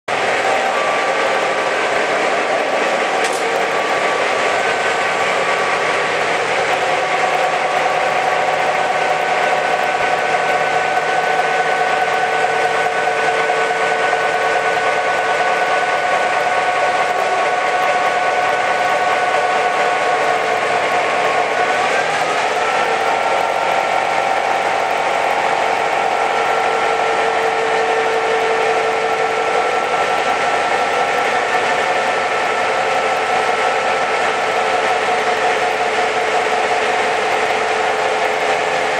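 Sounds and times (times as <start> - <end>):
diesel engine running: 0.1 - 38.9
steady whining tones: 0.1 - 38.9.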